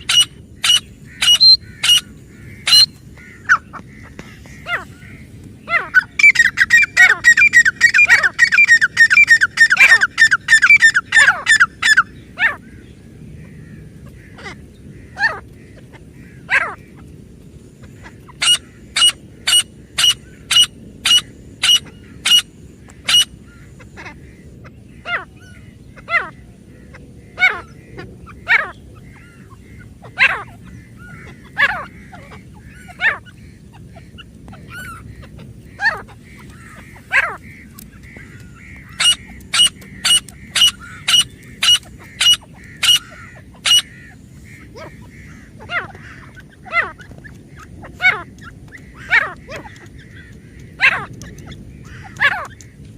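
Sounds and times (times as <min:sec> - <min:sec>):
francolin calling: 0:00.0 - 0:12.8, 0:17.8 - 0:26.4, 0:27.3 - 0:52.7.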